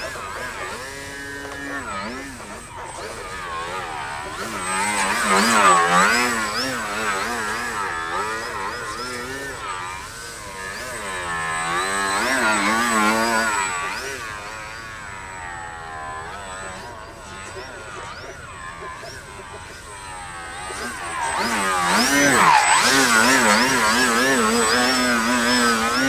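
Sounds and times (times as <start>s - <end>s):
model plane motor and propeller: 0.0s - 26.0s.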